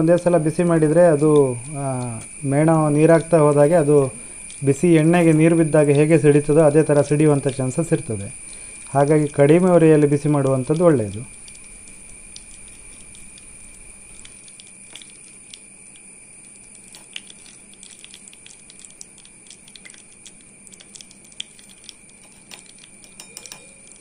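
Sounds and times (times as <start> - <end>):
faint steady hiss: 0.0 - 24.0
melting wax crackling: 0.0 - 24.0.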